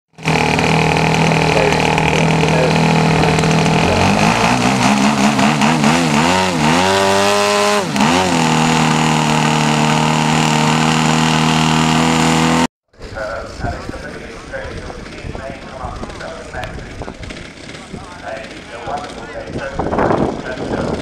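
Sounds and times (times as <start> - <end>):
model aircraft engine revving: 0.2 - 12.7, 14.1 - 21.0.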